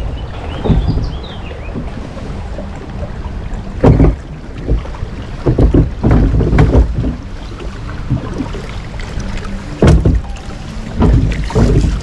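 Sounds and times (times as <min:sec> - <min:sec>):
water sloshing around boat: 0:00.0 - 0:12.0
wind rumble on microphone: 0:00.0 - 0:12.0.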